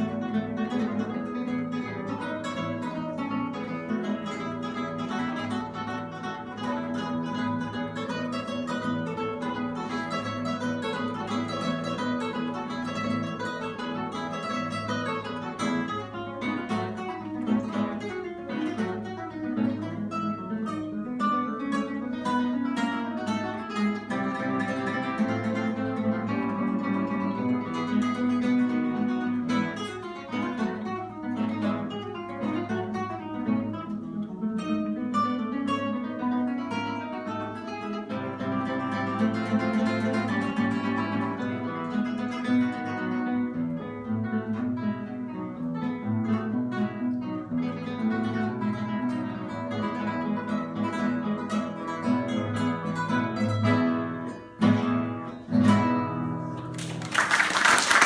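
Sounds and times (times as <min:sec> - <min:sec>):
classical guitar duet: 0:00.0 - 0:58.0.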